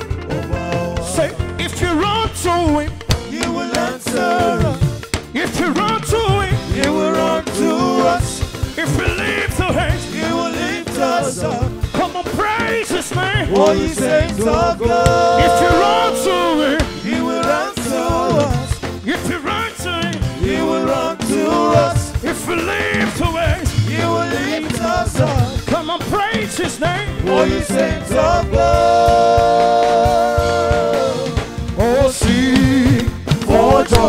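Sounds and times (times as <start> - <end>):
gospel band with drums: 0.0 - 34.0
lead voice singing: 0.3 - 34.0.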